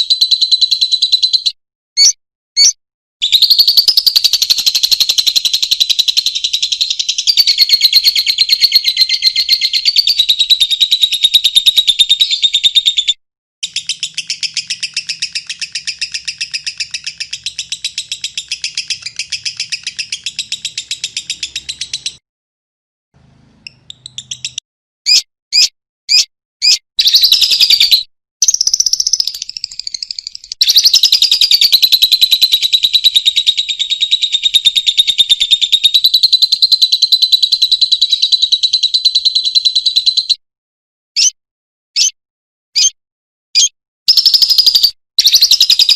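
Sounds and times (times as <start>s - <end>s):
bird chattering trill: 0.0s - 22.2s, 23.6s - 40.4s, 43.6s - 45.9s.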